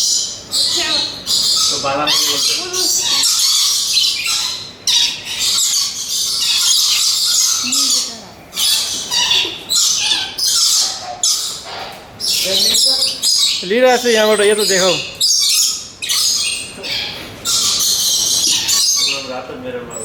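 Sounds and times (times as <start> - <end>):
parrots screeching: 0.0 - 20.0.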